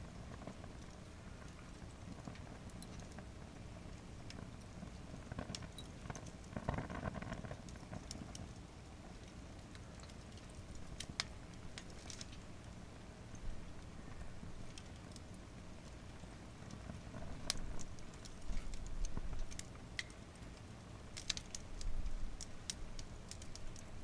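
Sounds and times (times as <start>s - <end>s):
campfire crackling and popping: 0.0s - 24.0s
low rush of flame: 0.0s - 24.0s.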